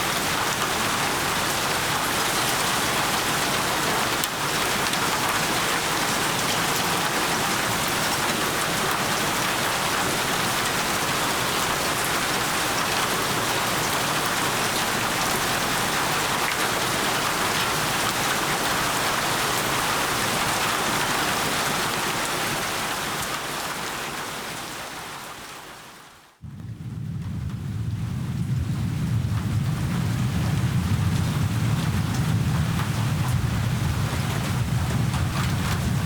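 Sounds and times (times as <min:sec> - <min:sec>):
deep rumbling rain: 0:00.0 - 0:36.0
steady rain falling: 0:00.0 - 0:36.0.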